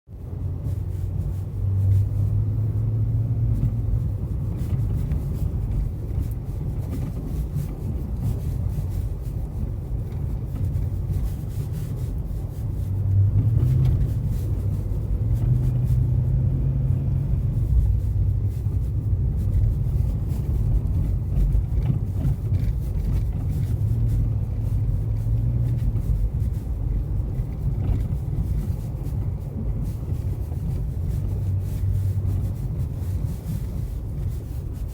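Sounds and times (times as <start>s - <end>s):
car road rumble: 0.1s - 34.9s.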